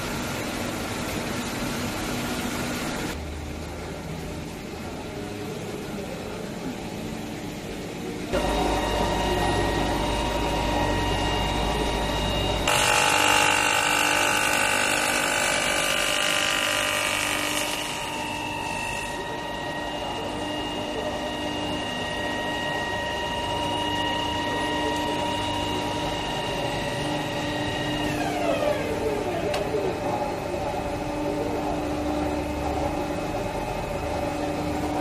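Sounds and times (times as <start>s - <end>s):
machinery motor whine: 5.2s - 35.0s.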